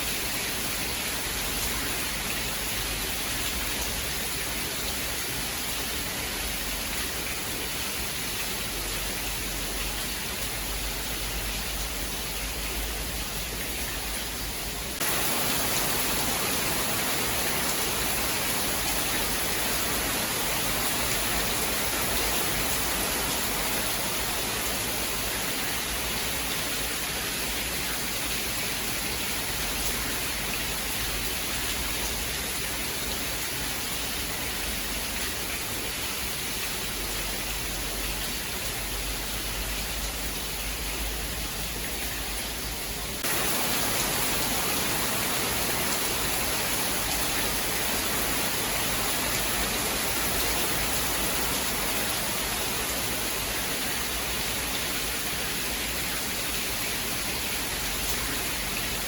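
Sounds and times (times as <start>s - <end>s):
heavy rain hissing: 0.0s - 32.4s, 34.4s - 59.0s.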